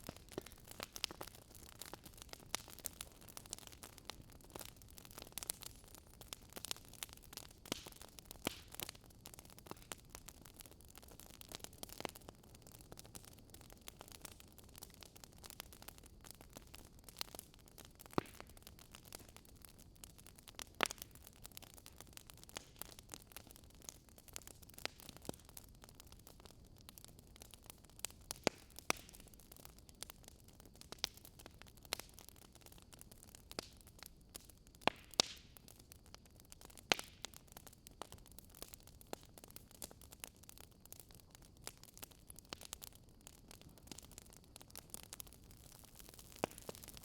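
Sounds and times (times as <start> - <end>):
firewood crackling and popping: 0.0 - 47.0.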